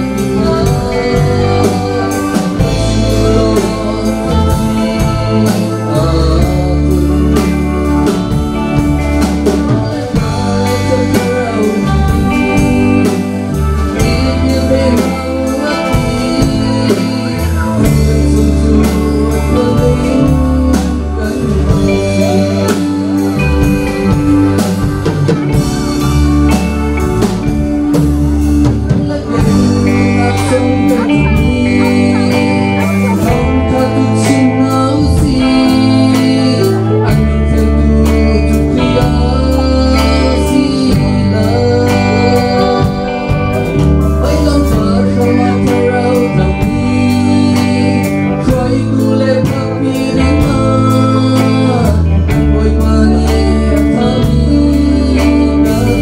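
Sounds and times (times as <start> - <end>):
bass guitar: 0.0 - 56.0
drum kit: 0.0 - 56.0
electric guitar: 0.0 - 56.0
man singing into a microphone: 0.0 - 56.0.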